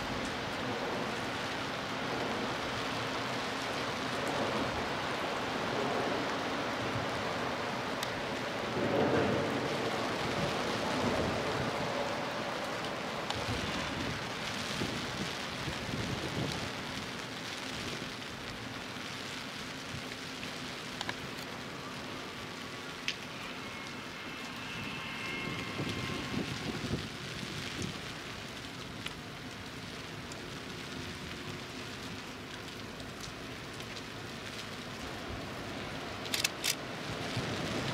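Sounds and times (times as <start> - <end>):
sharp raindrop ticks: 0.0 - 1.5, 7.9 - 37.9
steady rain falling: 0.0 - 37.9.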